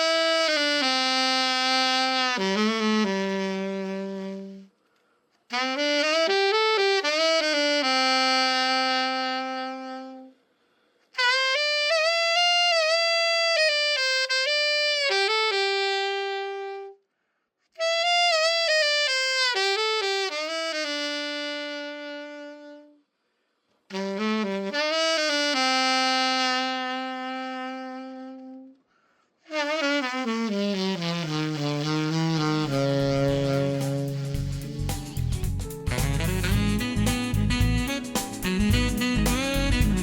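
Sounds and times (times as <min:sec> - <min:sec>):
alto saxophone solo: 0:00.0 - 0:17.1, 0:17.7 - 0:40.0.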